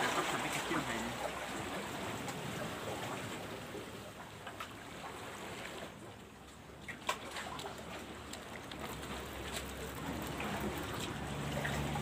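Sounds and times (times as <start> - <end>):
sea water lapping on rocks: 0.0 - 12.0.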